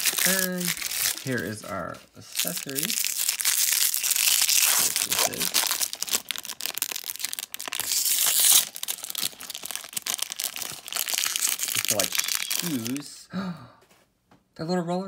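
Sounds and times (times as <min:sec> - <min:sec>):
plastic wrapper crinkling: 0:00.0 - 0:01.6, 0:02.3 - 0:13.0.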